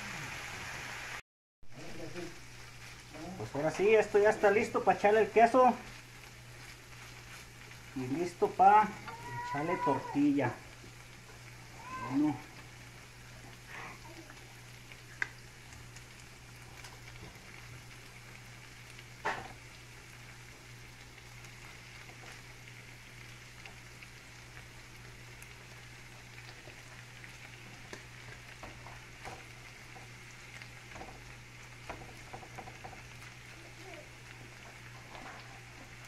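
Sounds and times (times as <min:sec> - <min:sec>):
food sizzling in frying pan: 0:00.0 - 0:36.0.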